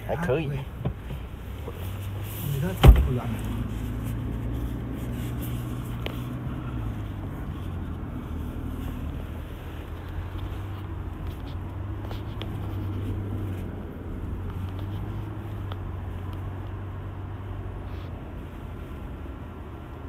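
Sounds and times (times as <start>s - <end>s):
diesel engine drone: 0.0s - 20.0s
tyre and road noise: 0.0s - 20.0s.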